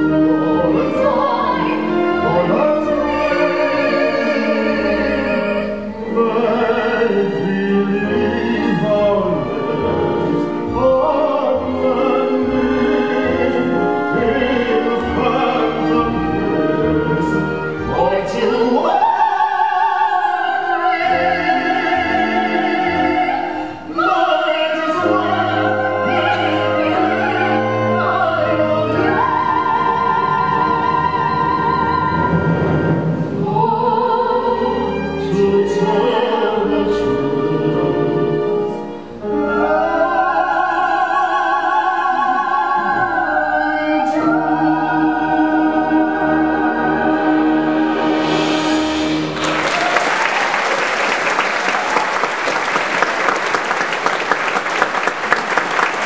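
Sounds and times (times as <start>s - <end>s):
soprano singing operatically: 0.0s - 47.9s
orchestral accompaniment: 0.0s - 51.4s.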